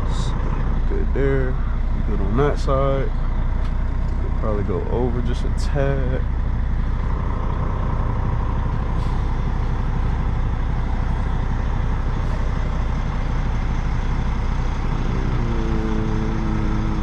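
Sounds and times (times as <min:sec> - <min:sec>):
diesel truck engine rumbling: 0:00.0 - 0:17.0.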